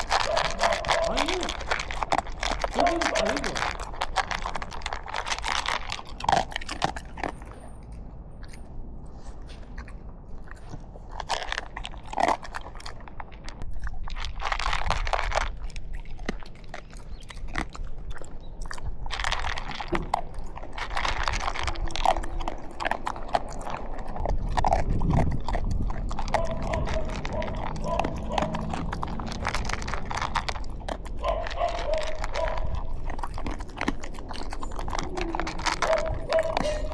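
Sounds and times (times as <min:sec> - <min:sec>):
dog crunching dry food: 0:00.0 - 0:36.9.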